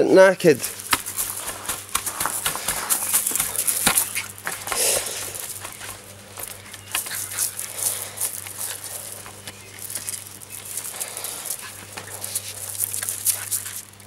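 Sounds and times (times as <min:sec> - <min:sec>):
broom scraping stone and gravel: 0:00.6 - 0:14.0.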